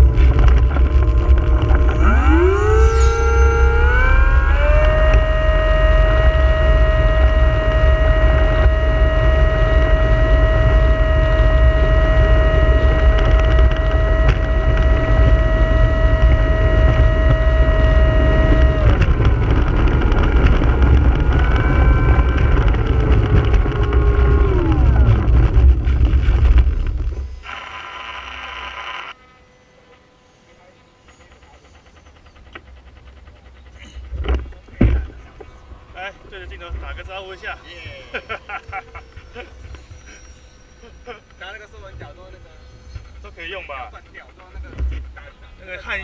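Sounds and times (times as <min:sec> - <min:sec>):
heavy low rumble: 0:00.0 - 0:27.5, 0:31.1 - 0:46.0
model airplane motor and propeller: 0:00.0 - 0:46.0.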